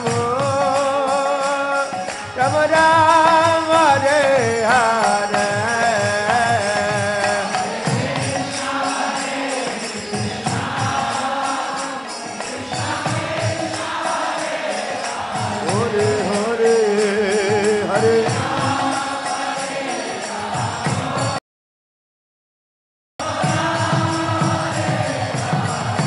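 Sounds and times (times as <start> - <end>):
devotional chant singing: 0.0 - 21.4, 23.2 - 26.0
jingling percussion beat: 0.0 - 21.4, 23.2 - 26.0.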